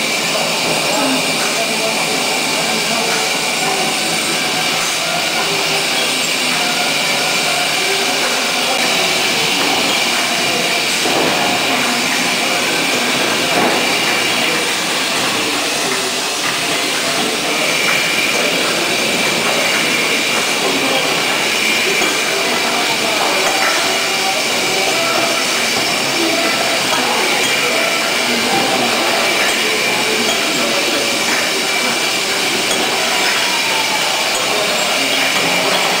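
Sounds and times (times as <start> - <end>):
glass bottles clinking: 0.0 - 36.0
high-pitched machine whine: 0.0 - 36.0
machinery clattering: 0.0 - 36.0.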